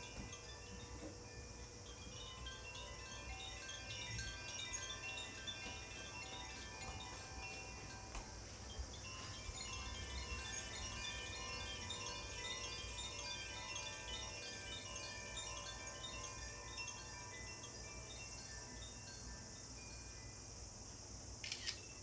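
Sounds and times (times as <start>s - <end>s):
chimes tinkling: 0.0s - 20.8s.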